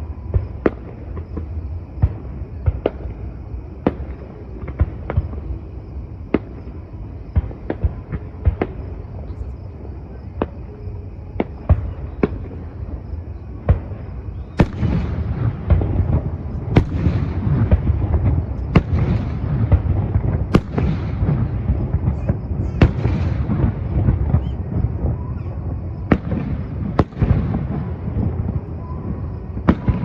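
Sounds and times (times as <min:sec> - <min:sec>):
fireworks bangs: 0:00.0 - 0:30.0
fireworks rumble and crackle: 0:00.0 - 0:30.0.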